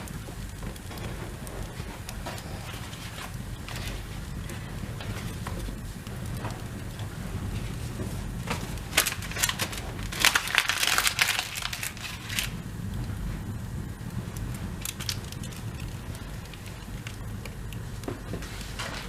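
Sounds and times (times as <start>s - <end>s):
fire crackling in fireplace: 0.0s - 19.0s.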